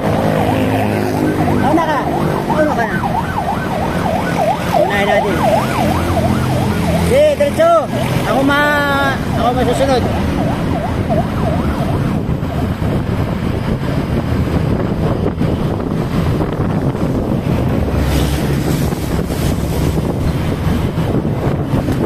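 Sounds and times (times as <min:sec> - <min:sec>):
wind buffeting microphone: 0:00.0 - 0:07.1, 0:07.8 - 0:22.0
engine and road rumble: 0:00.0 - 0:22.0.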